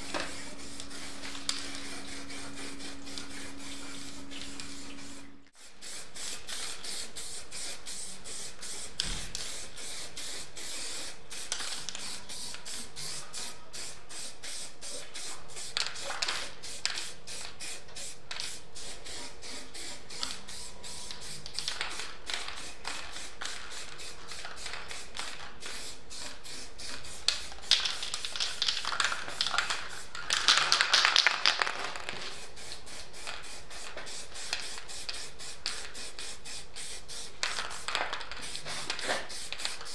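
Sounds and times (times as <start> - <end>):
spray paint can hissing: 0.0 - 39.9.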